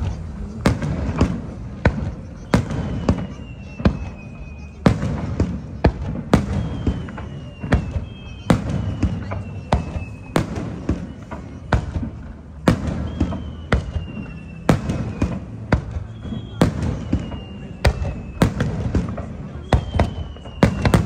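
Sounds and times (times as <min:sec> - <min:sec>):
fireworks bursting: 0:00.0 - 0:21.0
high firework whistles: 0:00.0 - 0:21.0.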